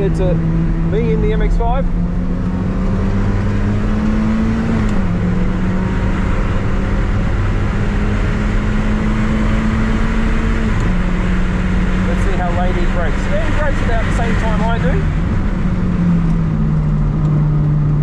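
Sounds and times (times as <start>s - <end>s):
car engine at high revs: 0.0s - 18.0s.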